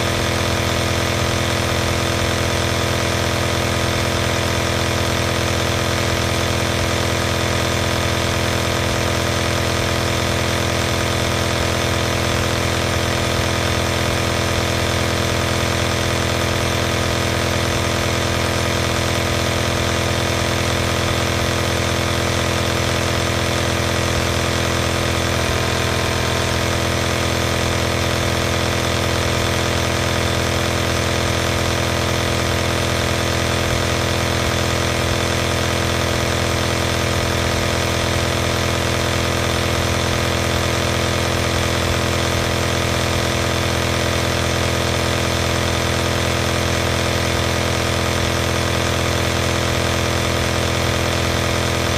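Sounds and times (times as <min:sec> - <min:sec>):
air pump humming: 0:00.0 - 0:51.9.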